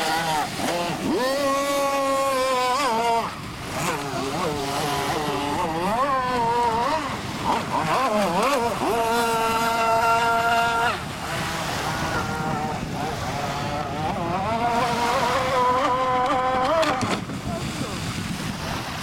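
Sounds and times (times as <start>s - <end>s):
two-stroke boat engine revving: 0.0s - 19.0s.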